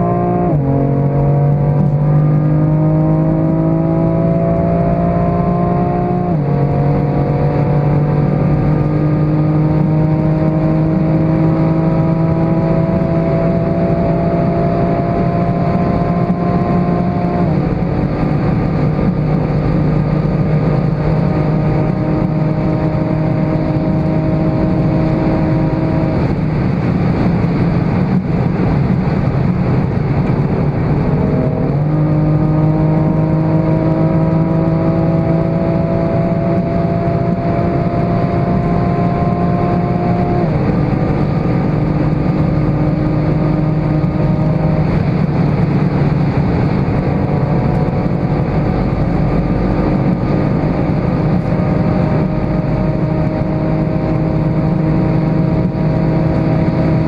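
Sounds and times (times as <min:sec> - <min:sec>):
car engine accelerating hard: 0:00.0 - 0:57.0
wind and tyre noise: 0:00.0 - 0:57.0.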